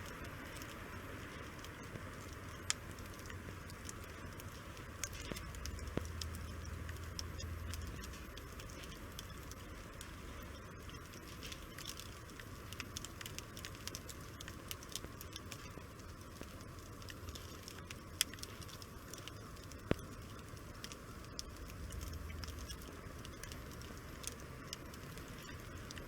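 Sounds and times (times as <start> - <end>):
low hiss of burning: 0.0 - 26.0
wood fire crackling and popping: 0.0 - 26.0.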